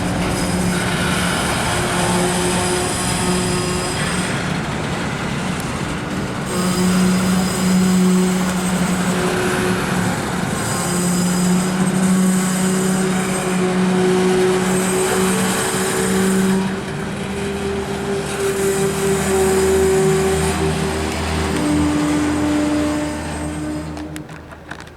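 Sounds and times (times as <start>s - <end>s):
high-pitched wheel squeal: 0.0s - 24.8s
train low hum: 0.0s - 24.9s.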